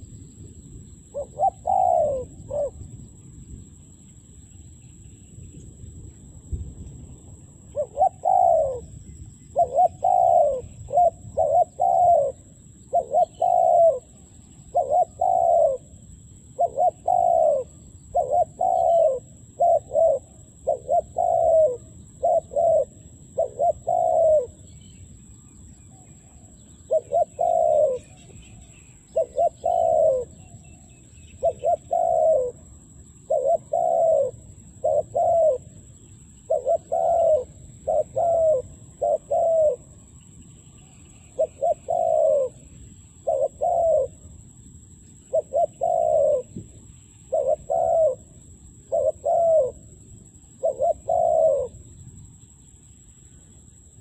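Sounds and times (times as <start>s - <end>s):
dove cooing: 1.1s - 2.9s, 7.7s - 24.8s, 26.0s - 40.1s, 40.7s - 44.4s, 45.2s - 52.0s.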